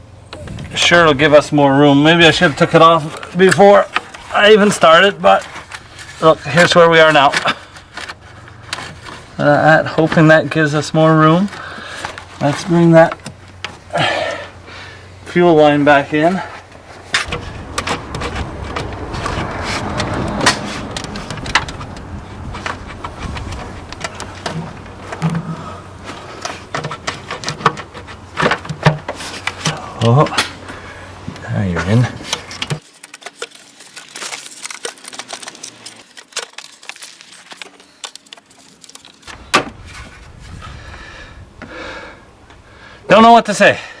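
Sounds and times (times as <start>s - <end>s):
plastic scraping and rubbing: 2.0s - 14.0s, 15.3s - 30.6s, 31.2s - 40.8s
parts clicking and knocking: 2.4s - 14.6s, 16.2s - 40.0s.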